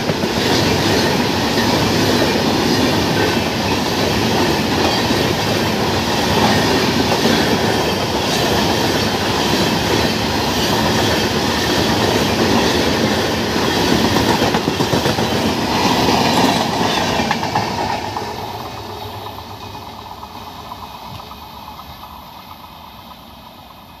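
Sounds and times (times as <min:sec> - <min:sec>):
train wheels clattering over rails: 0:00.0 - 0:24.0.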